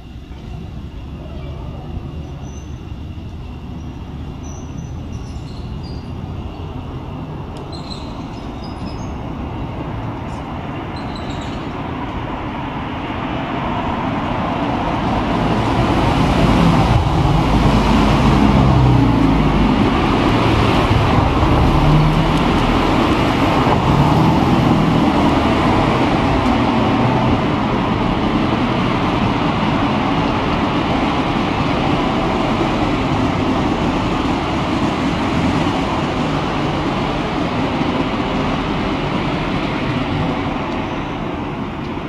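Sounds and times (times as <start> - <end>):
cars passing on street: 0.0 - 42.0.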